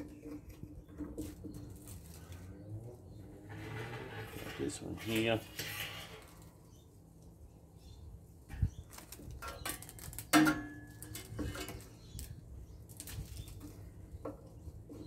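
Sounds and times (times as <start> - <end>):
rustling of cable insulation: 0.0 - 7.4, 8.4 - 15.0.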